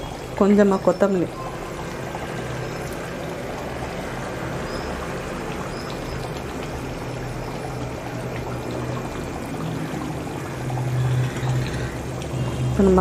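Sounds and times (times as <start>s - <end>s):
curry bubbling in a pan: 0.0s - 13.0s.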